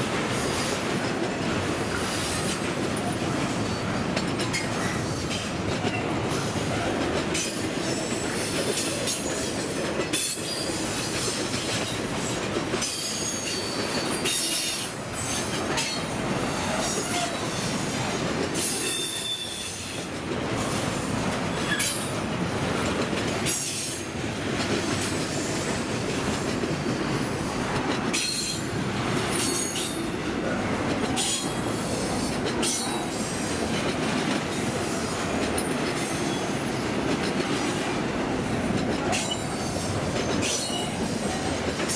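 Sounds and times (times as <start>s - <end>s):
freight train rumbling past: 0.0s - 41.9s
wheels clicking over rail joints: 0.1s - 41.9s.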